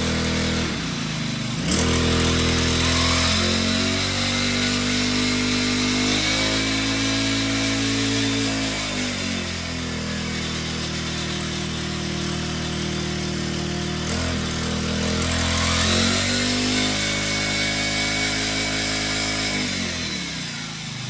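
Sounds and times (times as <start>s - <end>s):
brush cutter engine running: 0.0s - 21.0s.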